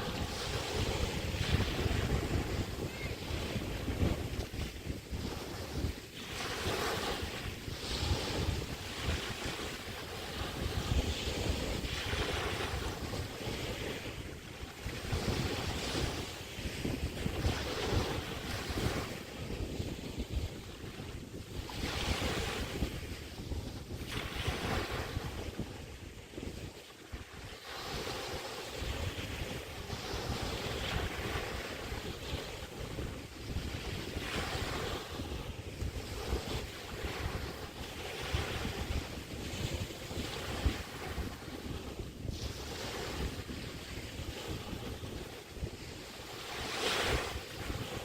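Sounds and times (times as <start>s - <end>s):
small waves breaking on beach: 0.0s - 48.0s
wind buffeting microphone: 0.0s - 48.0s.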